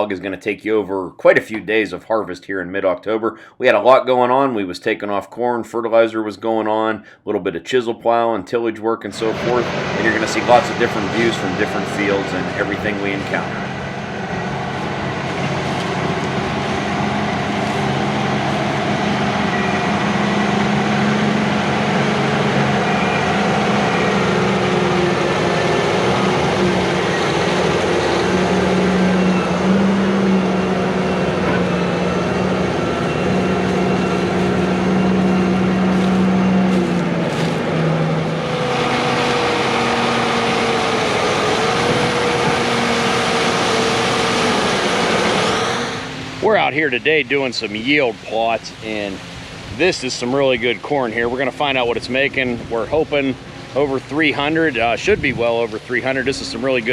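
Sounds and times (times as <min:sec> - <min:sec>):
heavy machinery engine running: 0:09.2 - 0:56.9
machine whine: 0:09.2 - 0:56.9.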